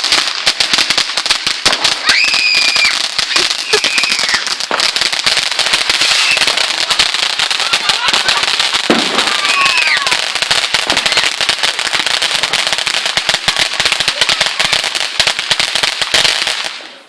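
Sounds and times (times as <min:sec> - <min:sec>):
firework crackling sharp cracks: 0:00.0 - 0:17.0.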